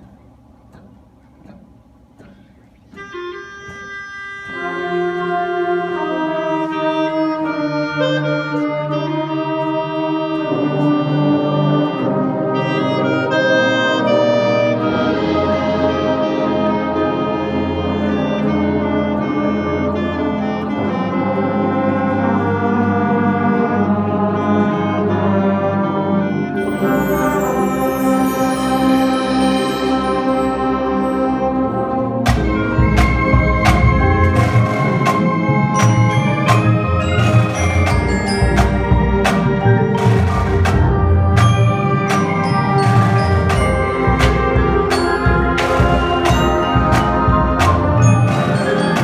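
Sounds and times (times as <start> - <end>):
brass band playing held chords: 2.9 - 49.0.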